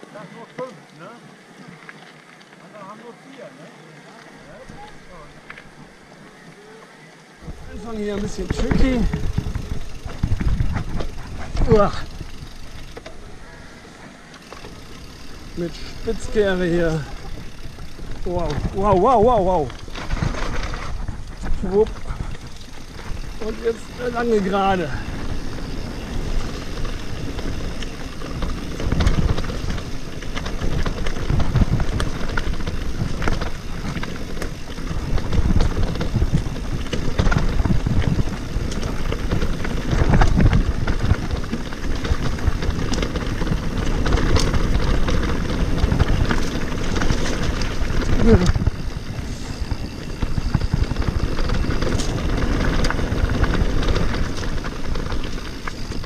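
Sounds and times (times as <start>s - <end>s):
tyres and wind rumbling: 3.8s - 56.0s
bike knocks and rattles: 7.4s - 13.4s, 14.4s - 56.0s.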